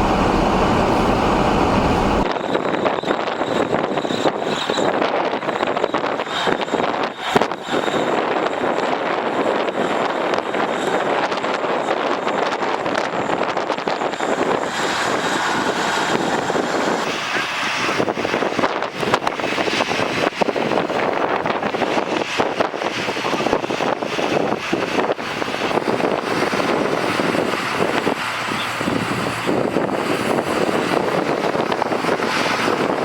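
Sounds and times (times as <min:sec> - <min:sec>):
blizzard wind and blowing snow: 0:00.0 - 0:33.0
wind gusts buffeting microphone: 0:00.0 - 0:33.0.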